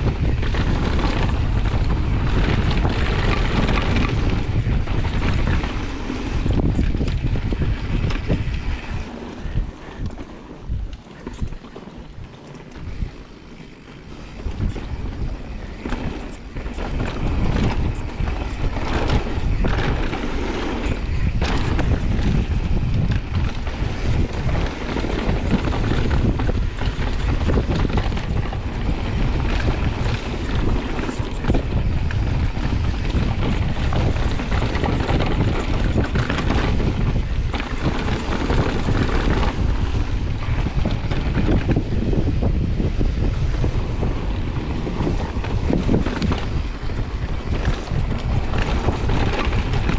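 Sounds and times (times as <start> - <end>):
bike tyres rumbling and rattling: 0.0 - 49.9
wind buffeting microphone: 0.0 - 49.9.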